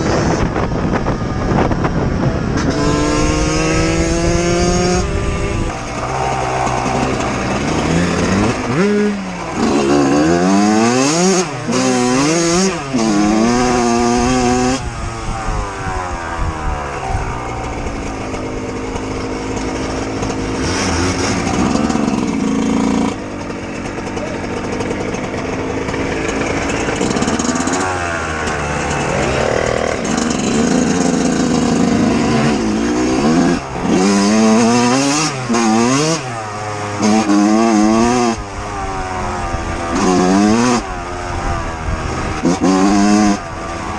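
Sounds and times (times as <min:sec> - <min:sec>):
two-stroke dirt bike engine revving: 0:00.0 - 0:43.9.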